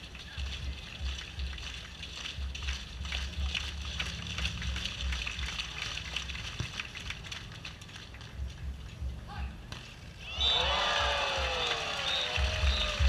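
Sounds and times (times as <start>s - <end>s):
people clapping: 0.0s - 13.0s.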